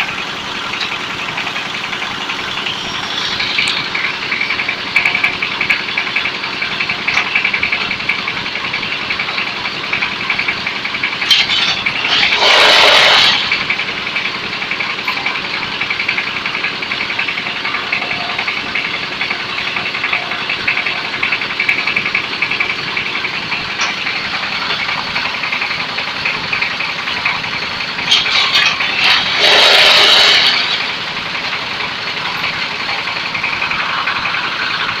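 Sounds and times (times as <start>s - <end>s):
concrete block press machine running: 0.0s - 35.0s.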